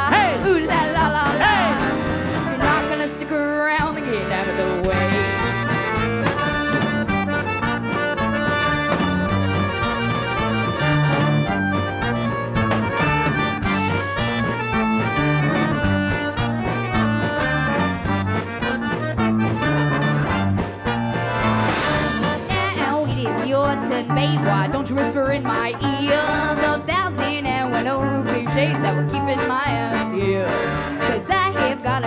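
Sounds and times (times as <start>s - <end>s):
live band playing swing music: 0.0s - 32.0s
stepping bass line: 0.0s - 32.0s.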